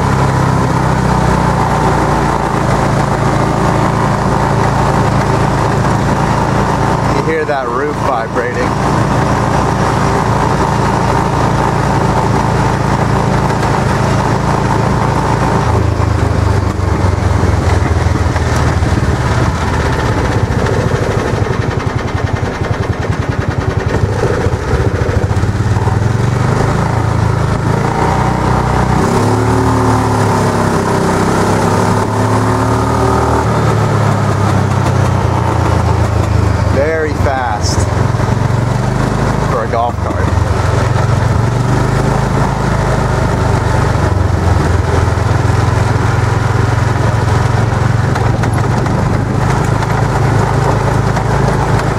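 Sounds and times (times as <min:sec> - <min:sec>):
road and wind noise: 0:00.0 - 0:51.9
small engine running loud: 0:00.0 - 0:51.9.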